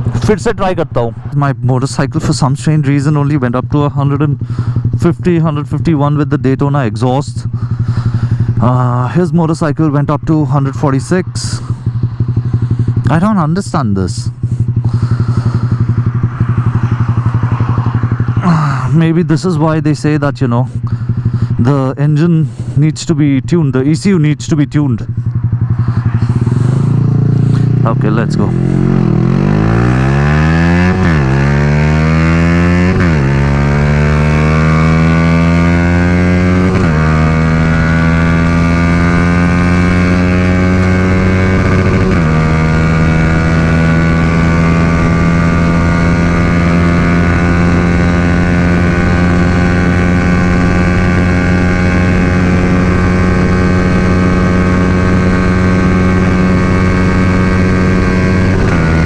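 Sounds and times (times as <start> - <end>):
motorcycle engine accelerating hard: 0.0 - 9.2, 10.3 - 19.4, 20.7 - 21.8, 24.9 - 59.0.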